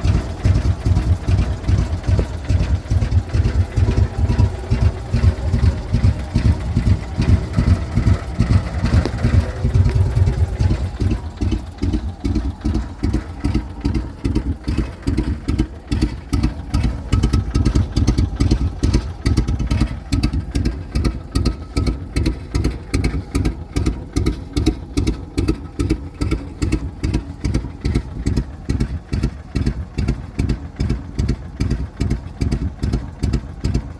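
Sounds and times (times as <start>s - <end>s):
utility truck engine idling: 0.0s - 33.9s.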